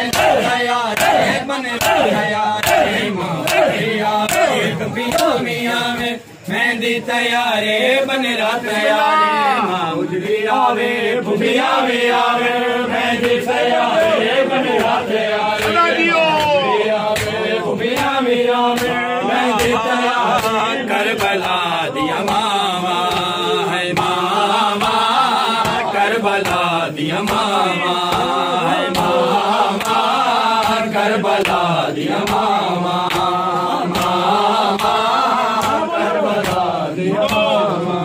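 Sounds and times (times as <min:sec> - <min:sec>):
men chanting a lament: 0:00.0 - 0:38.0.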